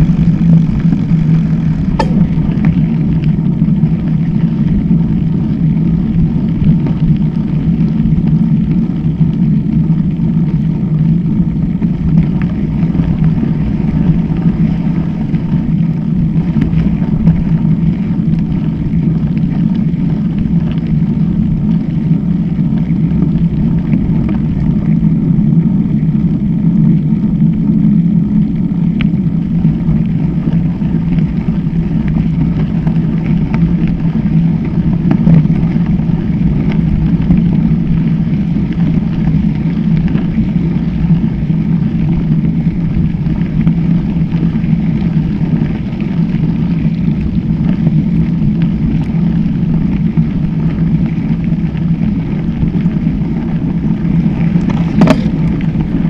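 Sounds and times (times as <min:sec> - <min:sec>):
bike tyres rumbling on gravel: 0:00.0 - 0:56.0
wind buffeting microphone: 0:00.0 - 0:56.0.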